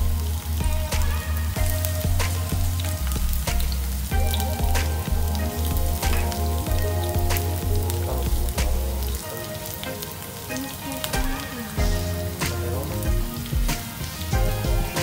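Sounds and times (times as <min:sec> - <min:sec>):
background music with bass line: 0:00.0 - 0:15.0
onions sizzling in hot oil: 0:00.0 - 0:15.0.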